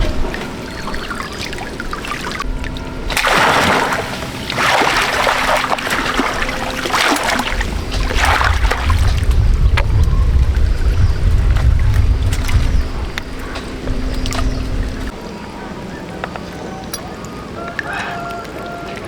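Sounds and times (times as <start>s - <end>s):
faint steady hum: 0.0s - 16.0s
wind rumble on microphone: 0.0s - 16.1s
water splashing: 0.0s - 19.0s.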